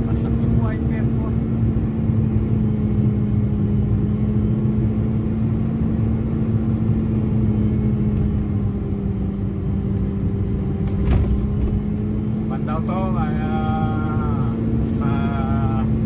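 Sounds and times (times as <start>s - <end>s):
low road rumble: 0.0s - 16.0s
truck engine hum: 0.0s - 16.0s.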